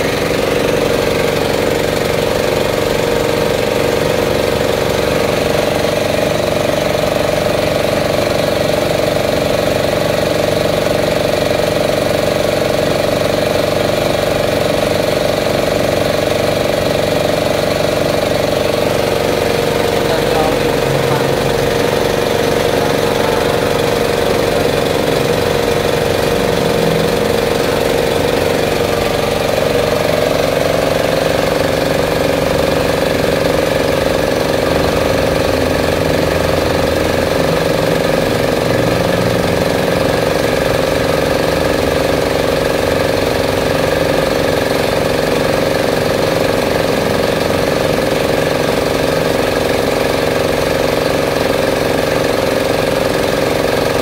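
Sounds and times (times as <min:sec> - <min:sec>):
air compressor engine running: 0:00.0 - 0:54.0.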